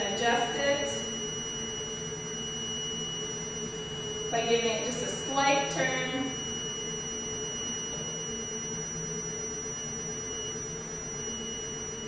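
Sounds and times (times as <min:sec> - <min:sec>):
high-pitched alarm tone: 0:00.0 - 0:12.0.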